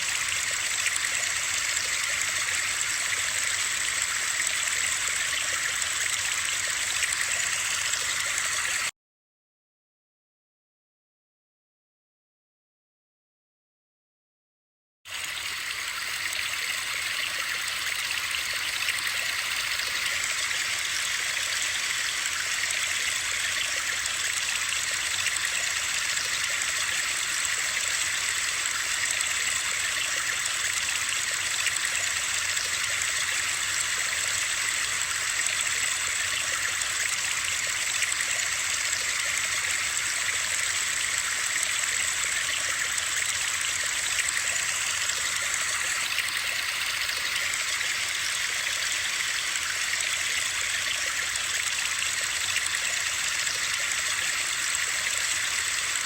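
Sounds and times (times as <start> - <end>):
running water rushing: 0.0 - 8.9, 15.1 - 56.0.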